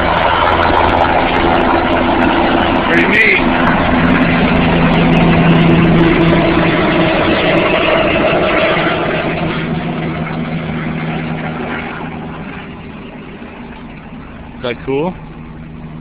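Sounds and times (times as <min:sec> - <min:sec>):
helicopter flying: 0:00.0 - 0:16.0.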